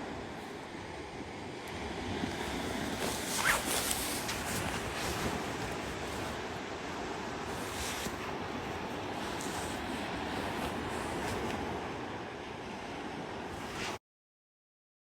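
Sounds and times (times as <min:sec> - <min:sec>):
ocean surf washing on beach: 0:00.0 - 0:14.0
wind noise on microphone: 0:01.7 - 0:14.0.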